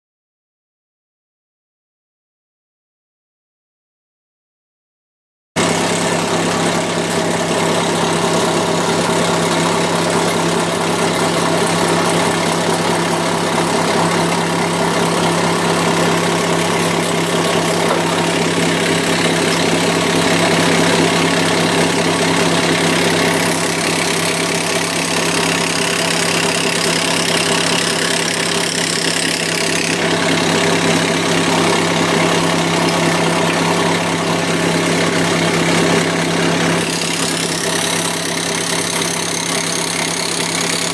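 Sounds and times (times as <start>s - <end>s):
swaging machine hammering: 5.6s - 40.9s.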